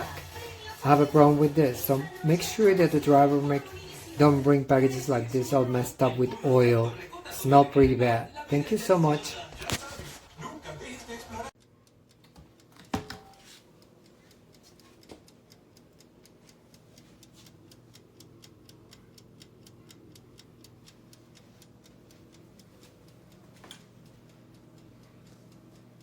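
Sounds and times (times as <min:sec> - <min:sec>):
mechanical timer ticking: 0:00.3 - 0:09.3, 0:11.6 - 0:26.0.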